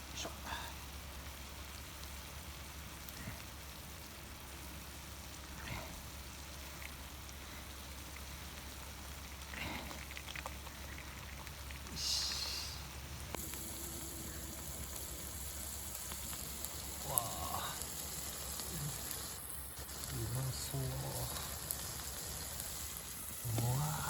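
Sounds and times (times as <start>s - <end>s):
food sizzling on griddle: 0.0s - 24.0s.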